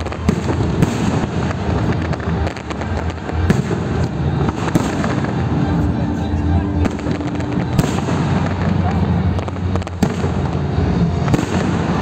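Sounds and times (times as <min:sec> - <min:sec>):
fireworks sharp bangs and crackles: 0:00.0 - 0:12.0.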